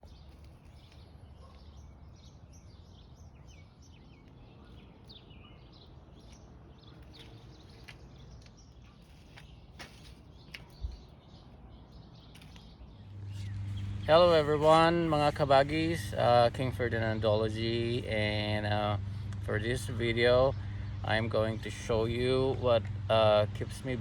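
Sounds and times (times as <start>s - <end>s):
outdoor background noise: 0.0s - 24.0s
songbirds chirping: 0.0s - 24.0s.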